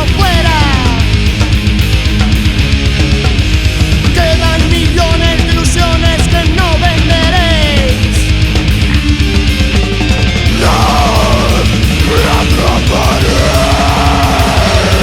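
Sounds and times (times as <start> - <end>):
bass: 0.0 - 15.0
distorted guitars: 0.0 - 15.0
drums: 0.0 - 15.0
melodic lead guitar line: 0.0 - 15.0.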